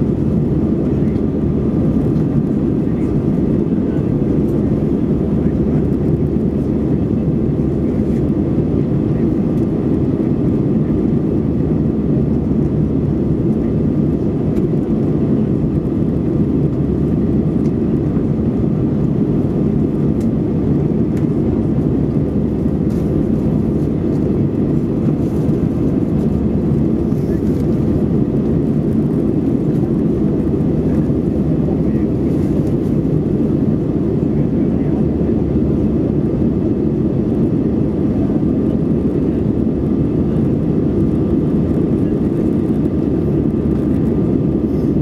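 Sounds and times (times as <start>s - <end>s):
airplane cabin rumble: 0.0s - 45.0s.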